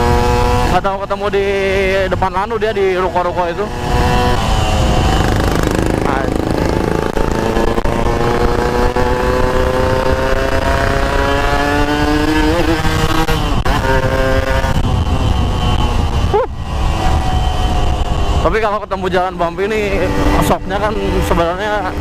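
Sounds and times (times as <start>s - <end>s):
motorcycle engine accelerating: 0.0s - 22.0s
wind rumble on microphone: 0.0s - 22.0s.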